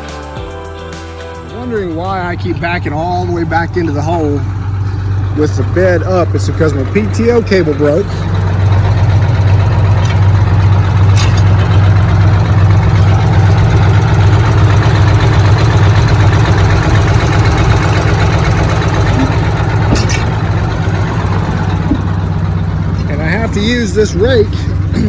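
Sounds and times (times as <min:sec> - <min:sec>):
diesel truck engine droning: 0:00.0 - 0:25.0.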